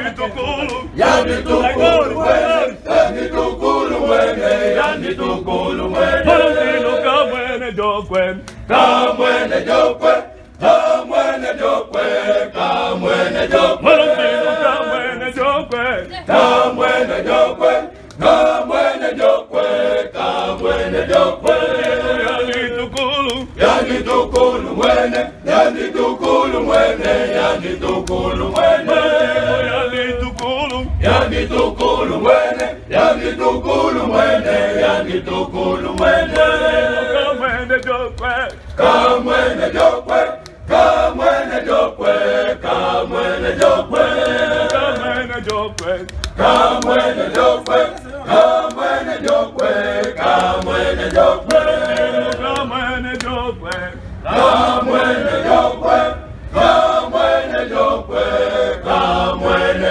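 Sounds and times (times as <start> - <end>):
male choir singing a cappella: 0.0 - 59.9.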